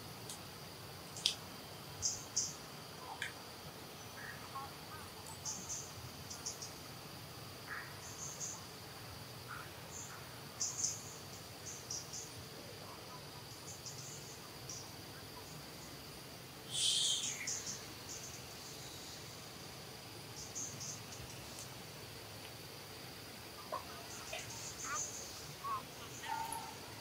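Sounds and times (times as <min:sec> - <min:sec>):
faint low insect calls: 0:00.0 - 0:27.0
insect chirps: 0:00.0 - 0:27.0
insect high-pitched drone: 0:00.0 - 0:27.0.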